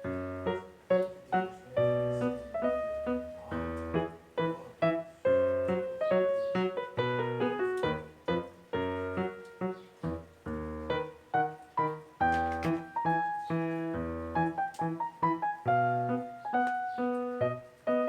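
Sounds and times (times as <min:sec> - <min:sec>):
background piano music: 0:00.0 - 0:18.0.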